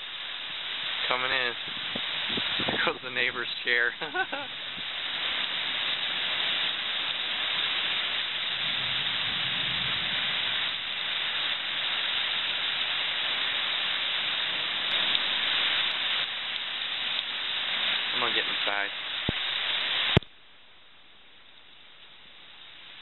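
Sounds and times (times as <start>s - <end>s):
heavy rain pouring: 0.0s - 20.3s, 21.4s - 23.0s.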